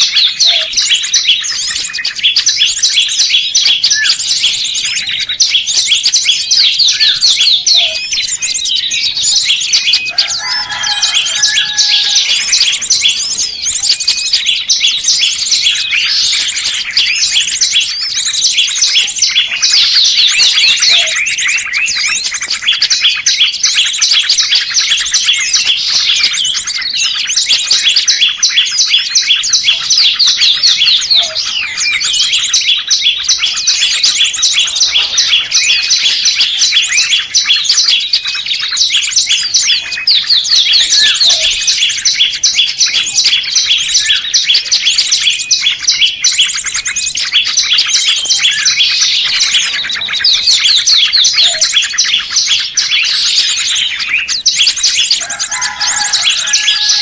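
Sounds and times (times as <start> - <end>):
songbirds chirping and twittering: 0.0 - 57.0.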